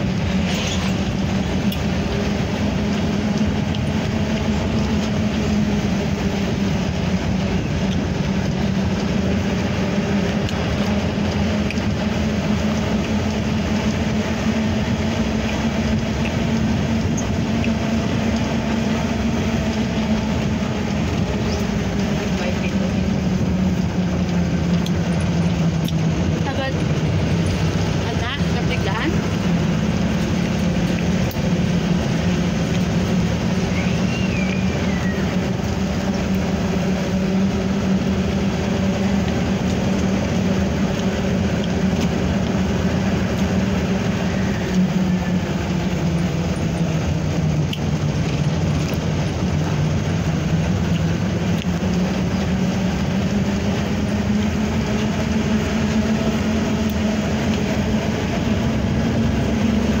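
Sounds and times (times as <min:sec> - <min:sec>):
road and wind noise: 0:00.0 - 1:00.0
vehicle engine droning: 0:00.0 - 1:00.0.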